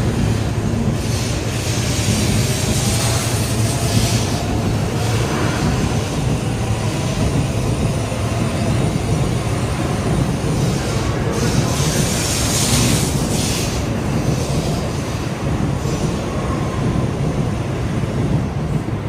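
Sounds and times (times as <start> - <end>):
high-speed train rumbling: 0.0 - 19.0.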